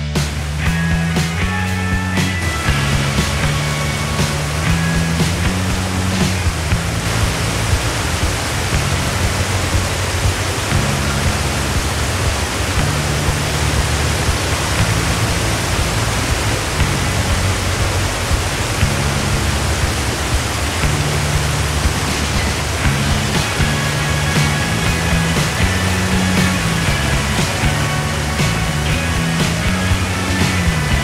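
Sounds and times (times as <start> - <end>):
slow low music: 0.0 - 31.0
waterfall rushing: 0.0 - 31.0.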